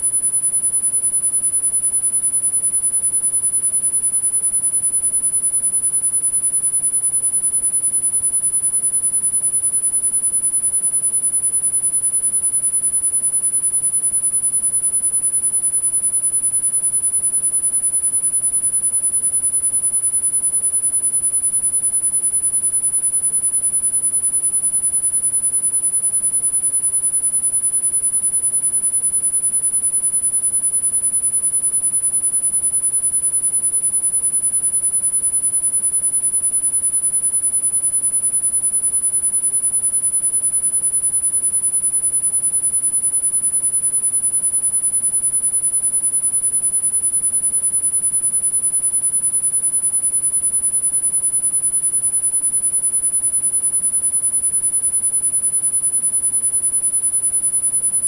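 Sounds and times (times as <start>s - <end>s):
high-pitched sine tone: 0.0s - 58.0s.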